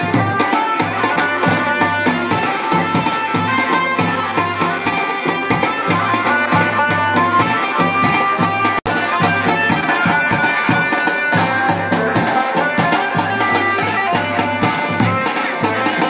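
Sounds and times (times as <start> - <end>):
folk drums beating: 0.0 - 16.0
held melody line: 0.0 - 16.0.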